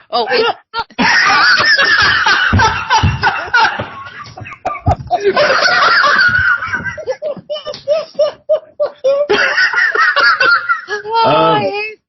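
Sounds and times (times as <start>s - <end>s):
people laughing loudly: 0.3s - 11.7s.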